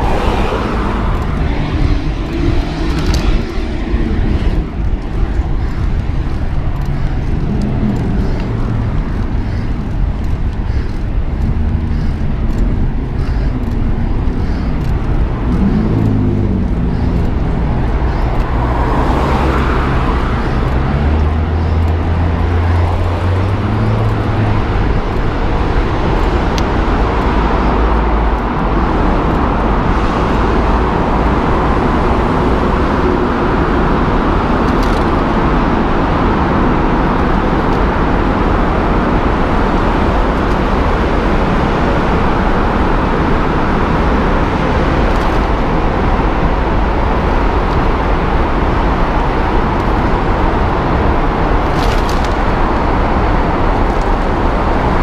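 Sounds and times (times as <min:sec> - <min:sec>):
passing car engine hum: 0:00.0 - 0:55.0
road traffic roar: 0:00.0 - 0:55.0
wind noise: 0:00.0 - 0:55.0.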